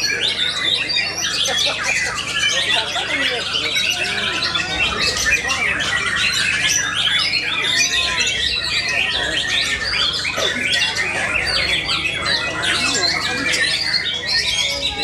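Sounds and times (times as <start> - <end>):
birds singing whistles and trills: 0.0 - 15.0.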